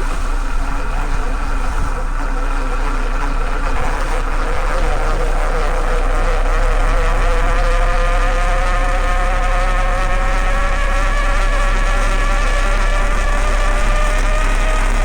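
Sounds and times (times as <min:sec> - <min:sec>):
low hum: 0:00.0 - 0:15.0
motor whining: 0:00.0 - 0:15.0.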